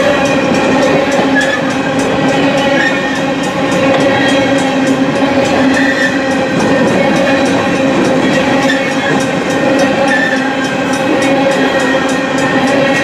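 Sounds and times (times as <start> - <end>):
freight train wheels rumbling: 0.0 - 13.0
high wheel squeals: 0.0 - 13.0.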